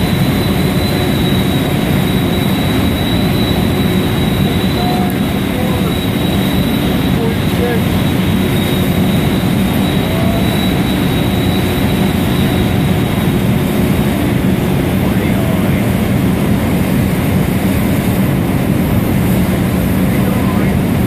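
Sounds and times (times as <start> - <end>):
faint high whine: 0.0 - 21.0
low hum: 0.0 - 21.0.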